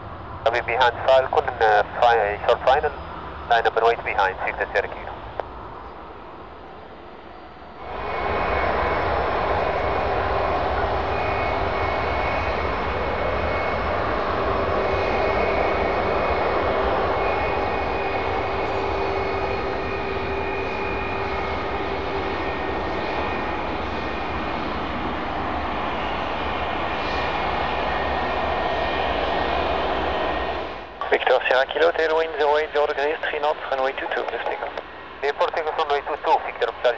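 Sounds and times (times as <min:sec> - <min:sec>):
jet engines whining: 0:00.0 - 0:36.9.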